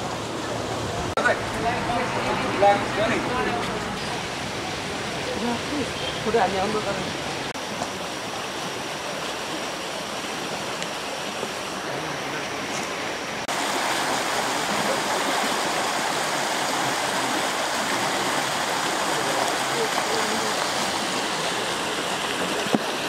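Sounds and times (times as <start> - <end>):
steady rushing water-like noise: 0.0 - 23.0.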